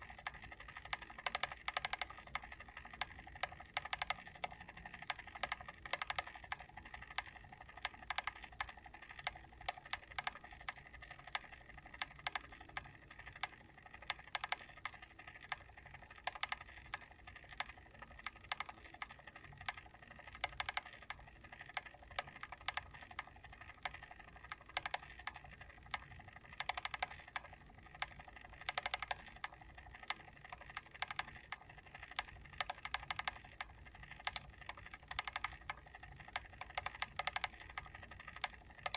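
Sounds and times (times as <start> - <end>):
faint steady hum: 0.0 - 38.9
mechanical timer switch clicking: 0.0 - 38.9.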